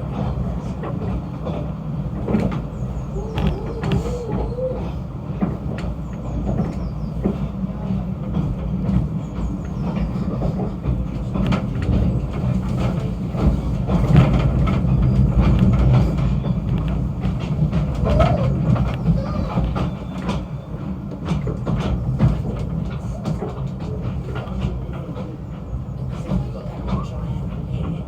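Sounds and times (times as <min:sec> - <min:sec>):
train rumbling and rattling: 0:00.0 - 0:28.0.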